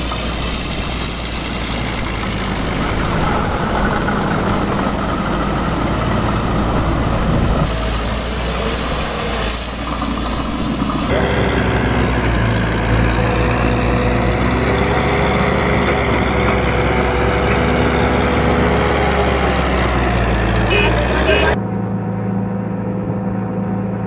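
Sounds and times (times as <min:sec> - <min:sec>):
tractor engine running: 0:00.0 - 0:21.6
high-pitched whine: 0:00.0 - 0:24.0.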